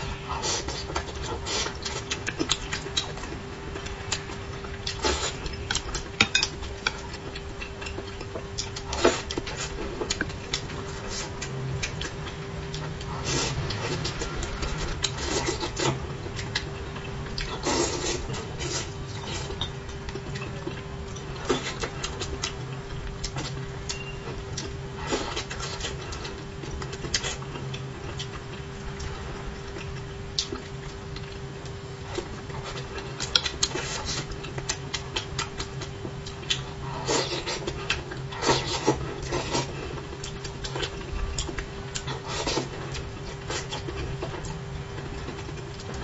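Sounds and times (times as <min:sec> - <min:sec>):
faint hum: 0:00.0 - 0:46.0
chewing and lip-smacking: 0:00.6 - 0:46.0.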